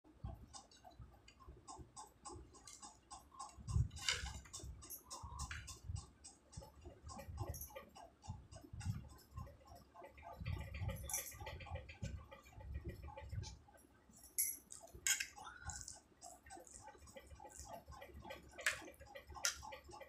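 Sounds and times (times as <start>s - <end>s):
rapid steady ticking: 0.1s - 20.0s.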